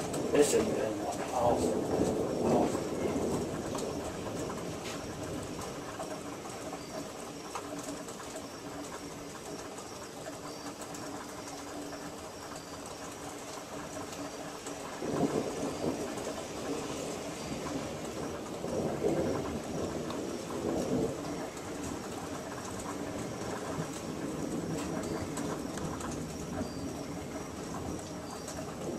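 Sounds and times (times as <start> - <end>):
distant thunder rumble: 0.0 - 28.9
steady rain hiss: 0.0 - 28.9.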